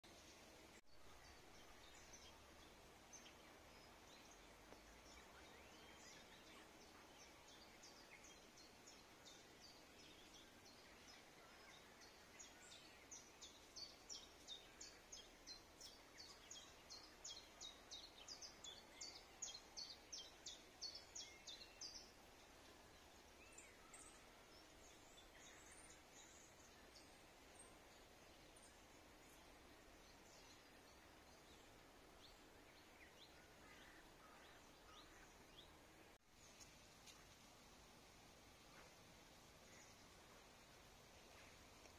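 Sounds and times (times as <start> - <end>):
faint bird chirping: 0.0 - 41.9
low steady background hiss: 0.0 - 41.9.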